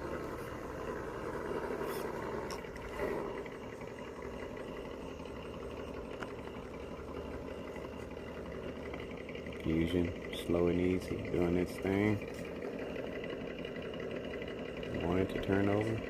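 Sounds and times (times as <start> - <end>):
electric motor whirring: 0.0 - 16.0.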